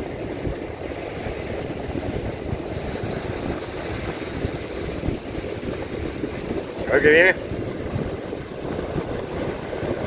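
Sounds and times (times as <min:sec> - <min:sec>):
surf breaking on shore: 0:00.0 - 0:10.0
wind buffeting microphone: 0:00.0 - 0:10.0.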